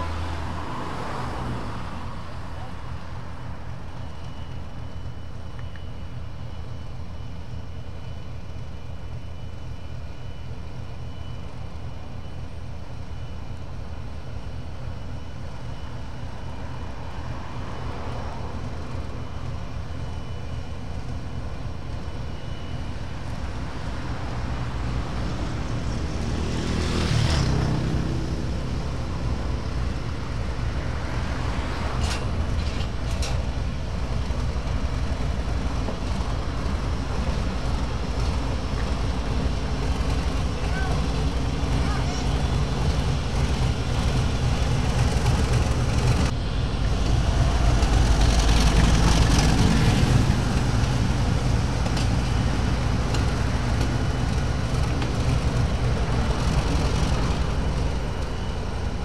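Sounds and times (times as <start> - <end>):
diesel locomotive engine rumbling: 0.0 - 59.0.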